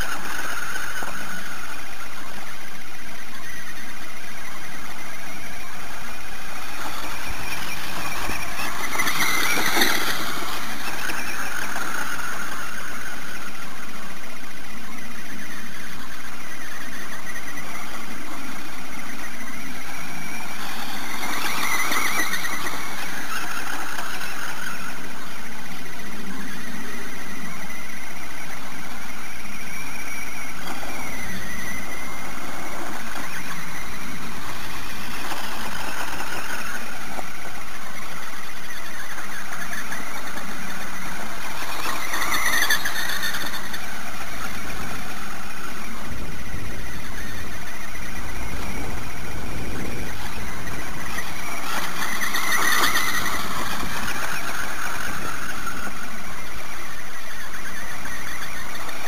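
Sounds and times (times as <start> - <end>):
electric toy car motor whining: 0.0 - 59.0.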